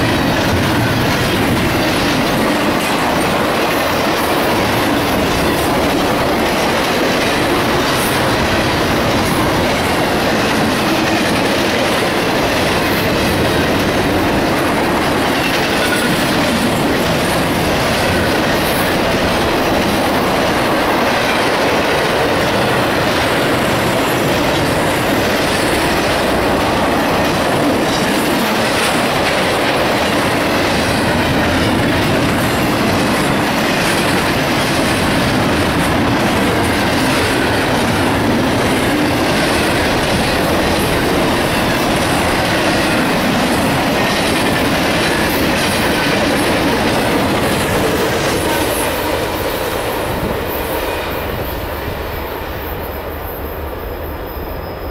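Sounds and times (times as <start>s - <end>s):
freight train passing: 0.0s - 54.9s.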